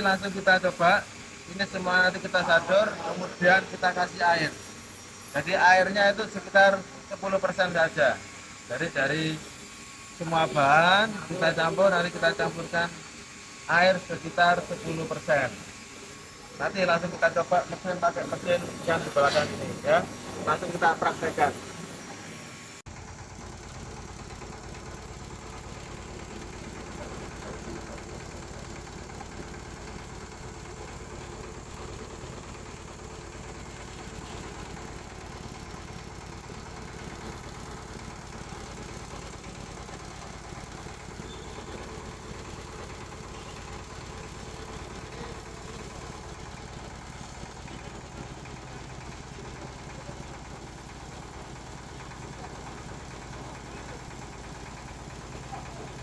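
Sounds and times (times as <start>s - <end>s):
machine humming: 0.0s - 54.0s.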